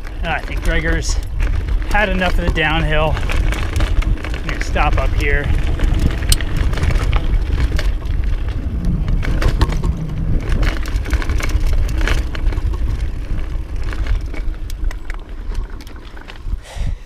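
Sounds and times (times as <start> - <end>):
wind on microphone: 0.0 - 15.7, 16.4 - 17.0
tyres crunching over gravel: 0.0 - 16.6
bike clicks and rattles: 0.0 - 17.0.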